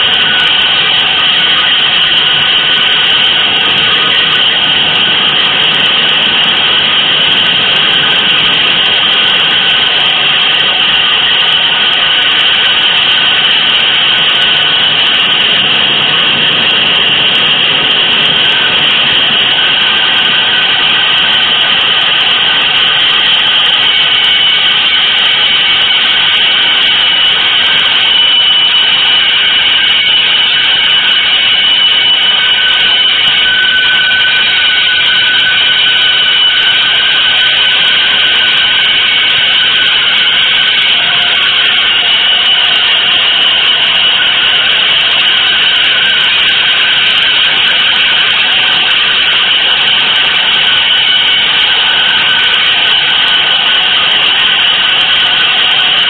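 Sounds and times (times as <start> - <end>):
dense noise wash: 0.0 - 56.0.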